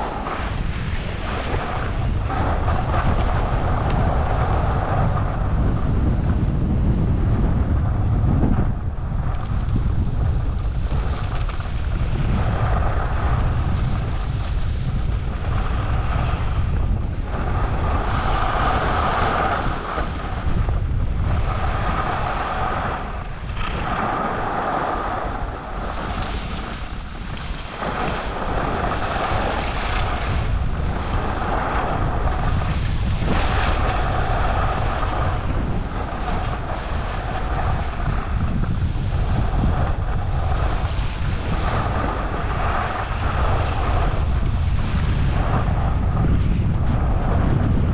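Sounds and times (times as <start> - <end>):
skis scraping across snow: 0.0 - 7.9, 9.3 - 47.9
wind buffeting microphone: 0.0 - 47.9.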